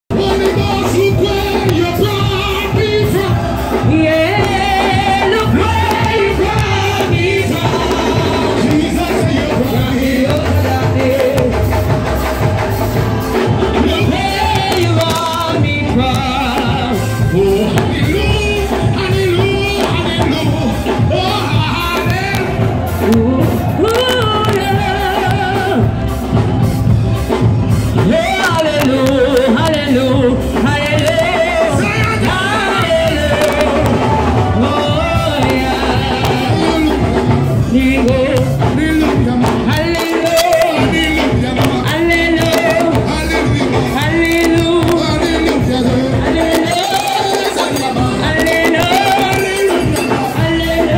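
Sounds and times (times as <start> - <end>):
congregation singing: 0.1 - 50.9
instrumental accompaniment: 0.1 - 50.9.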